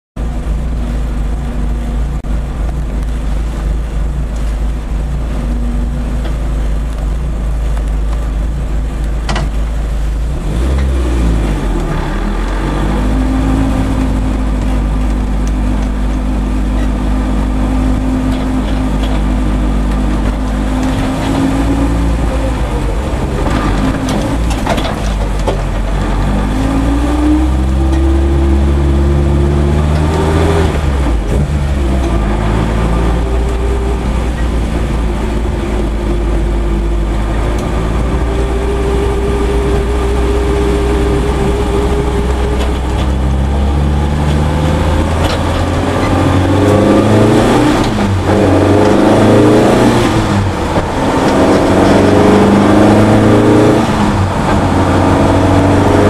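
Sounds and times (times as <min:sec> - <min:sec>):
car engine from inside cabin: 0:00.2 - 0:56.0.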